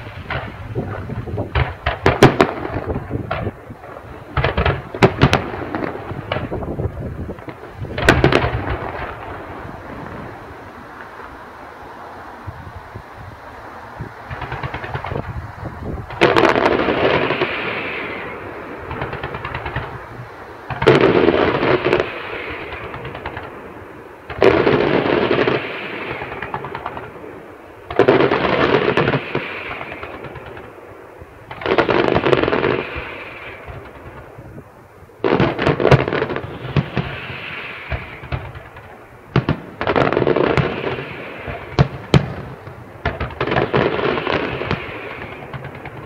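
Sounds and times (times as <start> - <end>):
fireworks sharp pops: 0.0 - 11.3, 14.2 - 34.4, 35.2 - 46.0
fireworks crackling: 0.0 - 46.0.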